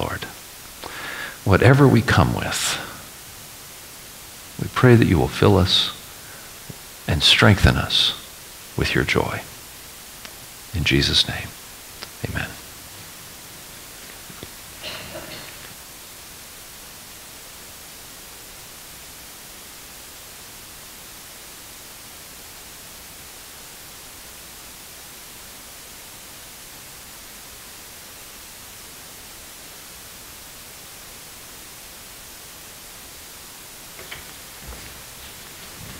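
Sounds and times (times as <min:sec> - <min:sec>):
recording hiss: 0:00.0 - 0:35.9.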